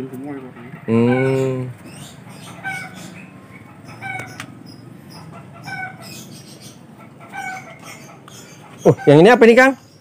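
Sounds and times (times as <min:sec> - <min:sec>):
chicken calling: 0:00.3 - 0:09.8.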